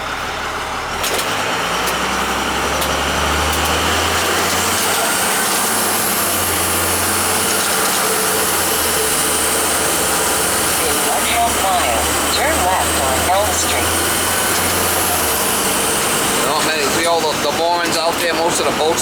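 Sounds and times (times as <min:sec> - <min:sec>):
vehicle road noise from cabin: 0:00.0 - 0:19.0.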